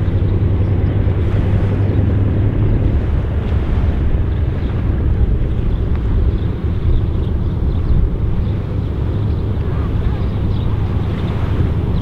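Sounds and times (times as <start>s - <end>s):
aircraft engines running steadily: 0.0s - 12.0s.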